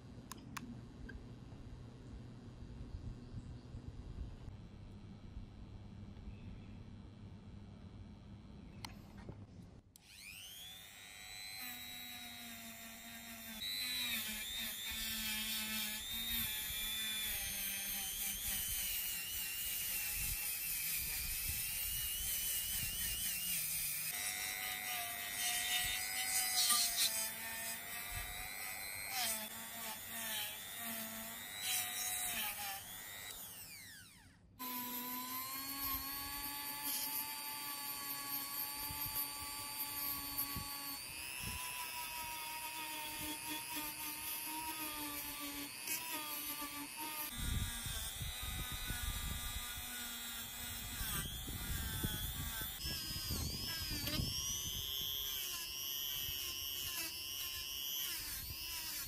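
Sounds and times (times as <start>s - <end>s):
rotary tool whining: 9.9s - 59.0s.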